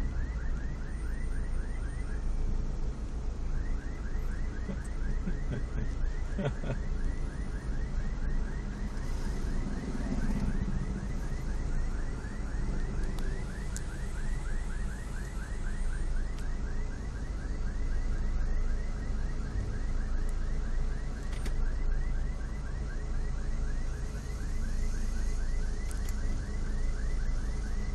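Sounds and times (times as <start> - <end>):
car alarm siren sweeping: 0.0 - 27.9
moving car hum: 0.0 - 27.9.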